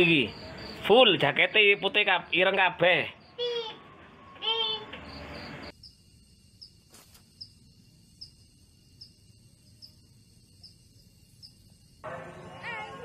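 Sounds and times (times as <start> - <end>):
faint high insect drone: 0.0 - 13.0
insects chirping: 0.0 - 13.0.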